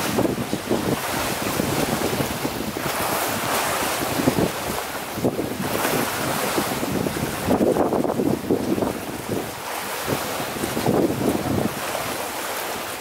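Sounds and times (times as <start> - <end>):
choppy water washing: 0.0 - 13.0
wind buffeting microphone: 0.0 - 13.0.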